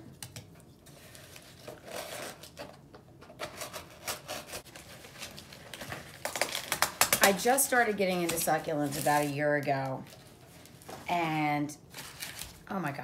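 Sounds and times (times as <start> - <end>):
paper rustling and crinkling: 0.3 - 11.1, 11.9 - 12.7.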